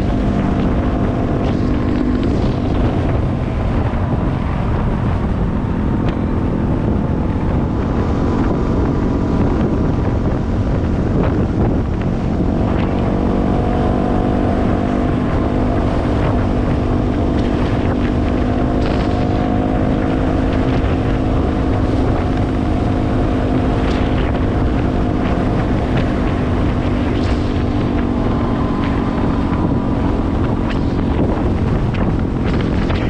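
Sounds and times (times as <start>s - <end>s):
motorcycle engine cruising: 0.0s - 33.0s
wind rushing over microphone: 0.0s - 33.0s.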